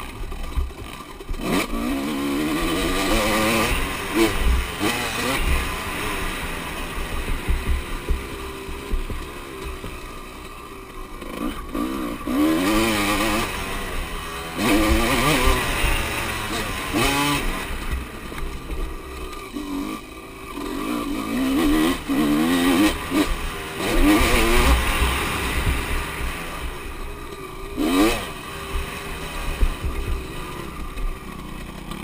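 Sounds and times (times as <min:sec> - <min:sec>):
motorcycles revving: 0:00.0 - 0:32.0.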